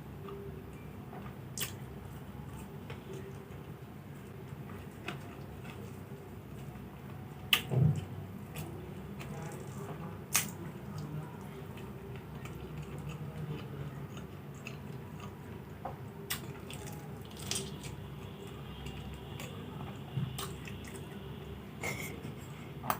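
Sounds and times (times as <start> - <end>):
chewing and wet mouth sounds: 0.2 - 1.9, 2.5 - 21.2.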